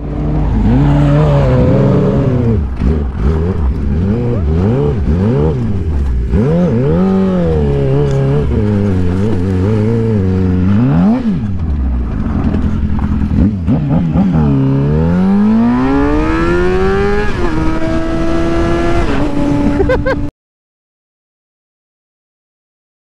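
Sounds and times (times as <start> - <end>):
motorcycle engine revving: 0.0 - 20.3.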